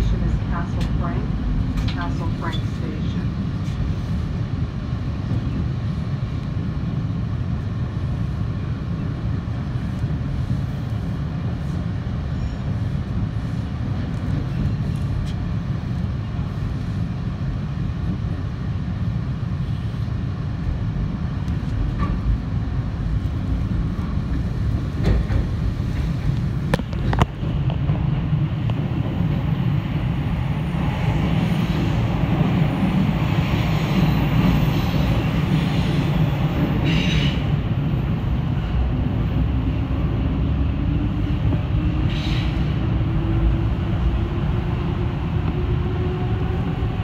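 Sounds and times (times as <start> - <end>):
subway train wheels rumbling: 0.0 - 47.0.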